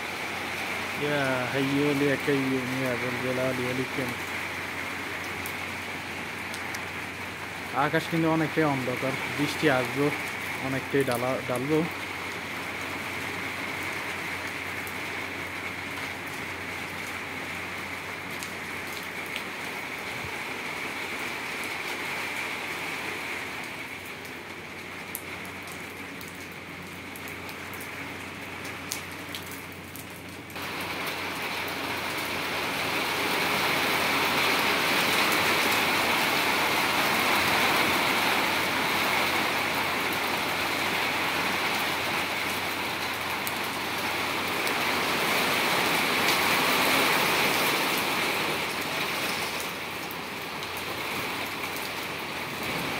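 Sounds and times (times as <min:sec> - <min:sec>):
rain falling on tiles: 0:00.0 - 0:52.9.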